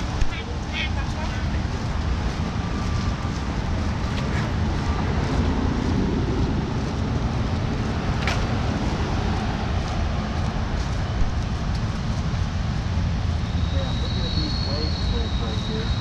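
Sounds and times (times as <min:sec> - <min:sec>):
car traffic rumbling past: 0:00.0 - 0:16.0.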